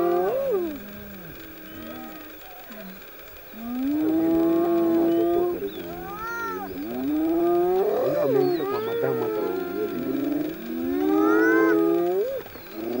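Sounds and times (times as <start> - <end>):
drawn-out animal calls: 0.0 - 13.0.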